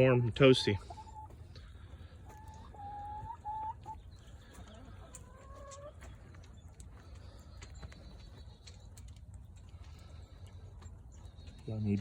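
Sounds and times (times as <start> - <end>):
chickens calling softly: 0.0 - 12.0.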